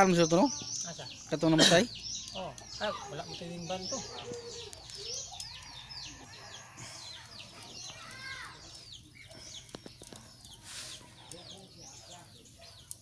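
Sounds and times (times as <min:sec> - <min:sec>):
chickens peeping and chirping: 0:00.0 - 0:13.0.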